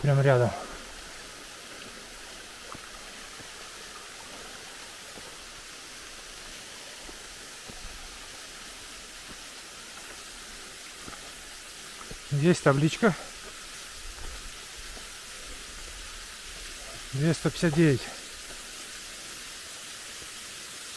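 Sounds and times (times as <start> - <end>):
waterfall hissing: 0.0 - 20.9.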